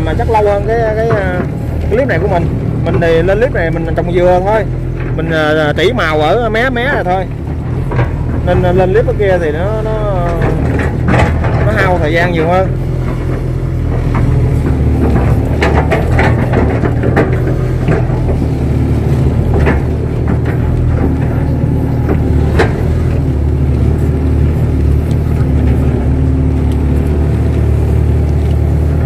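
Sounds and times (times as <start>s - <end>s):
sharp knocks and clanks: 0.0s - 26.1s
excavator diesel engine running: 0.0s - 29.0s.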